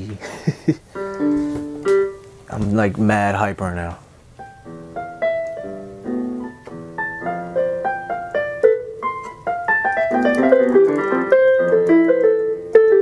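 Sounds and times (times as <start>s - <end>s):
keyboard piano tune: 0.9s - 3.4s, 4.3s - 13.0s.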